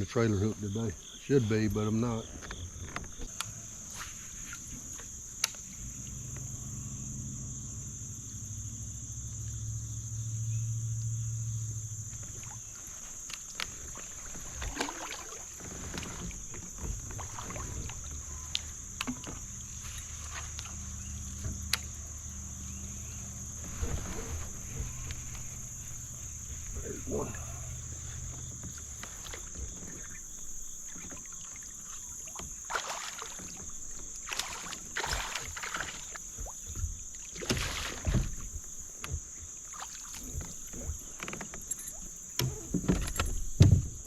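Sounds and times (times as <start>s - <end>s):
crickets buzzing: 0.0s - 44.0s
water splashes and gear knocks: 1.4s - 6.4s, 12.0s - 44.0s.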